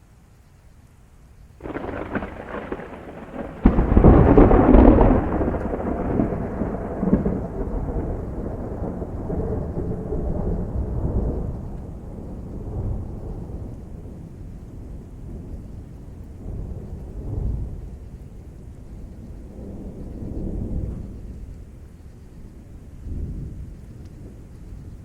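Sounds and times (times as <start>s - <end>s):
steady rain: 0.1s - 25.0s
thunder crack and rumble: 1.6s - 25.0s.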